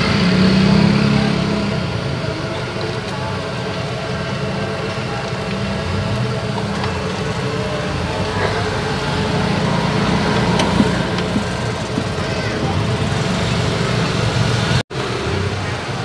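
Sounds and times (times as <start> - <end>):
low mechanical rumble: 1.6 - 14.8.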